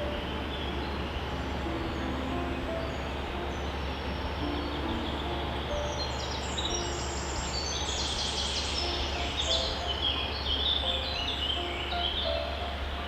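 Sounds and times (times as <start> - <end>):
small songbirds chirping: 0.0 - 13.0
steady hiss and hum: 0.0 - 13.0.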